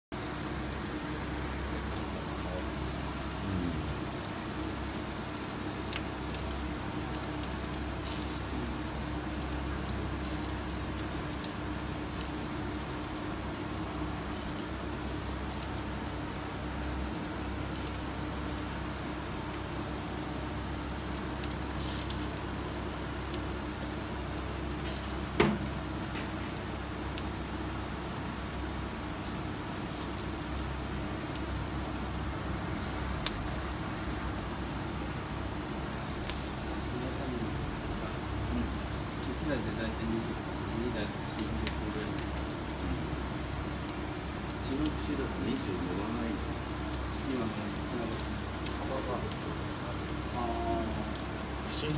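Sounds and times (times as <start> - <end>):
charcoal crackles and clicks: 0.1 - 51.9
gas grill hissing: 0.1 - 51.9.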